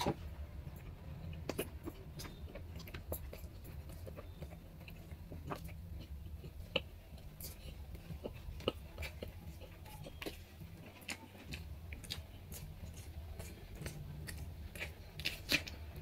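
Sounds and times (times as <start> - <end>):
chewing: 0.0 - 16.0
fingers mixing rice on a plate: 0.0 - 16.0
low steady hum: 0.0 - 16.0.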